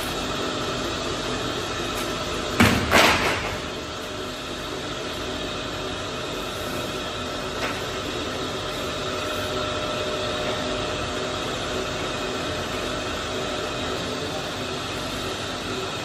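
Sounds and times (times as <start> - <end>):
factory machinery running: 0.0 - 16.0.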